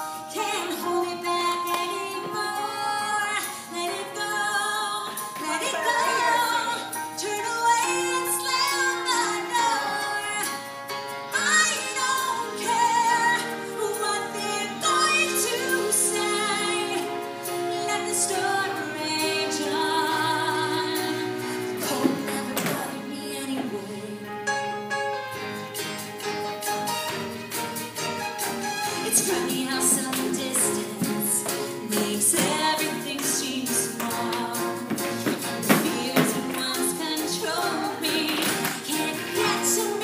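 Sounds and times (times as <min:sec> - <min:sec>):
woman singing with music: 0:00.0 - 0:26.0, 0:28.4 - 0:40.0.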